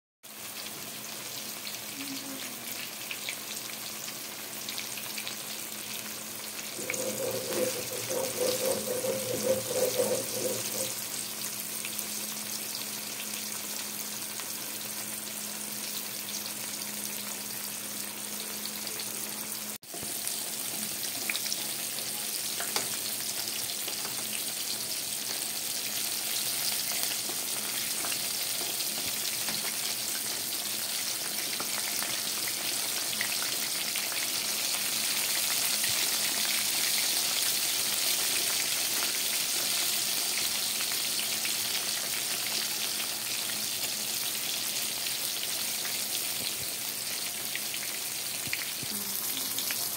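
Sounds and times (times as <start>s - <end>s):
tofu sizzling in hot oil: 0.3s - 49.9s.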